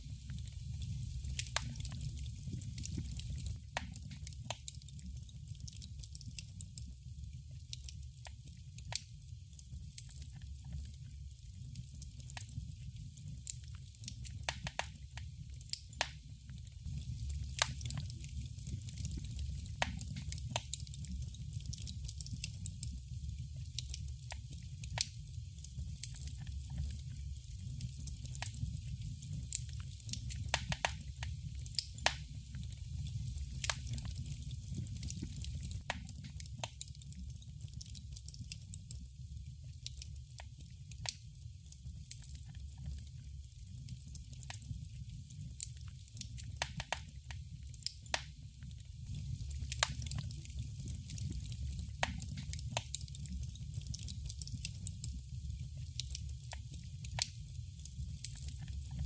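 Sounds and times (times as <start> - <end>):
low rumble of flames: 0.0 - 59.0
wood fire crackling: 0.0 - 59.0.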